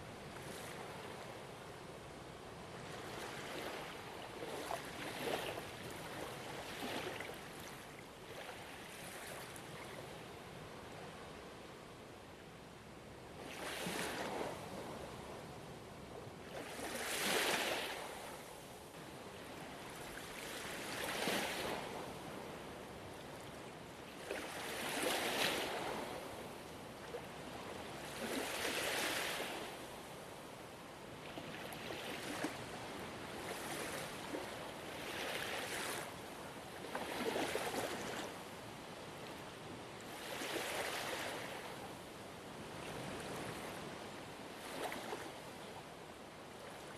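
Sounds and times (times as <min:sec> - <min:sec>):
ocean waves breaking on shore: 0:00.0 - 0:11.4, 0:13.4 - 0:46.9.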